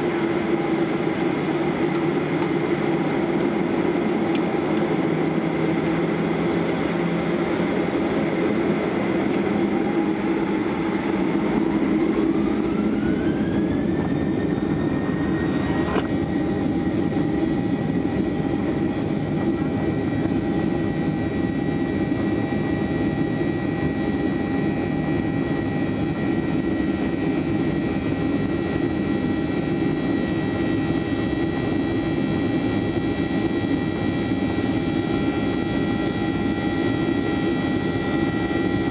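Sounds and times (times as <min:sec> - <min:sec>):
jet engine roar: 0:00.0 - 0:38.9
jet engine whine: 0:00.0 - 0:38.9.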